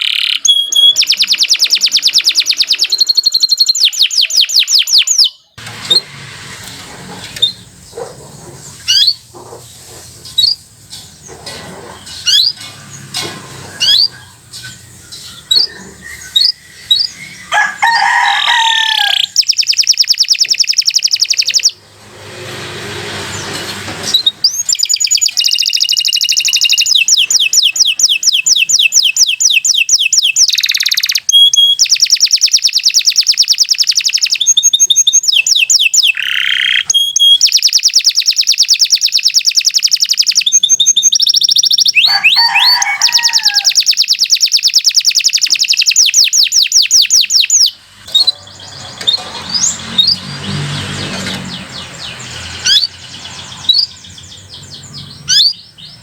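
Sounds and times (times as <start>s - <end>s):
canary singing trills: 0.0s - 6.2s, 7.3s - 56.0s.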